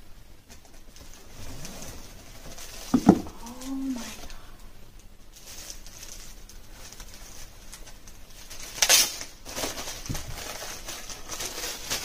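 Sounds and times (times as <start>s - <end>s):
packaging rustling and crinkling: 0.5s - 4.4s, 5.0s - 12.0s.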